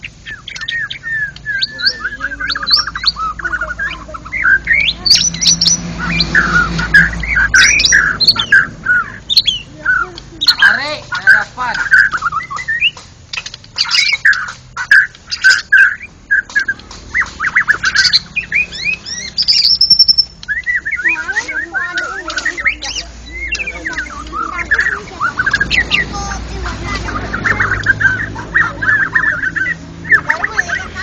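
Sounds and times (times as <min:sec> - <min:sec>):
bird singing whistled phrases: 0:00.0 - 0:31.0.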